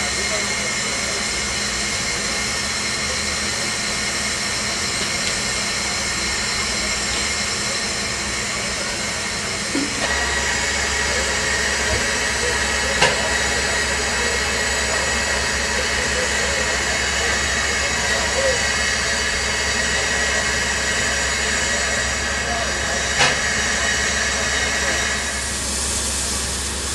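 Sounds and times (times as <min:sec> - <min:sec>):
steam hissing: 0:00.0 - 0:26.9.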